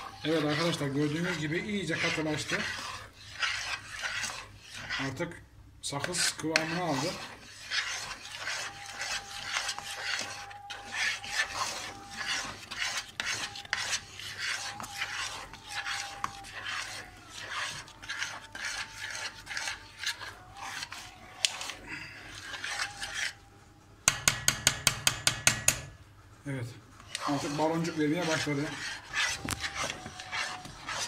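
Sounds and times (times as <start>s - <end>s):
metal spoon scraping pot: 0.0s - 26.1s, 26.9s - 31.0s.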